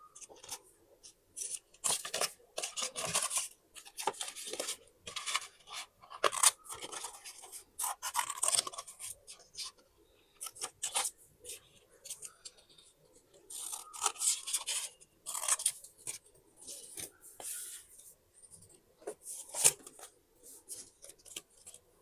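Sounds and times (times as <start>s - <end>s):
paper rustling and crinkling: 1.4s - 9.8s, 10.4s - 21.9s.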